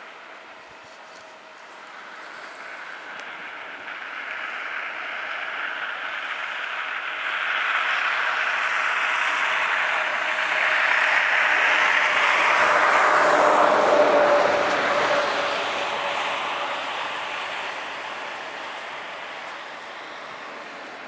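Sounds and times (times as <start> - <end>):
river water over pebbles: 0.0 - 21.0.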